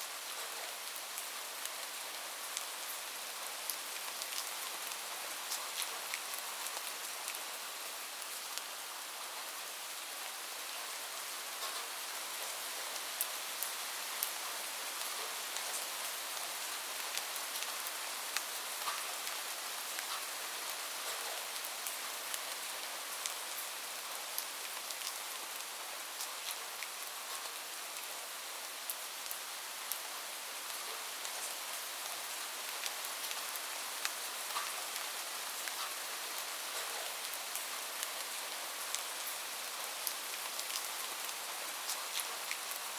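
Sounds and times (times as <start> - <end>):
light rain hiss: 0.0 - 42.9
raindrops ticking on a surface: 0.2 - 7.5, 11.5 - 42.9.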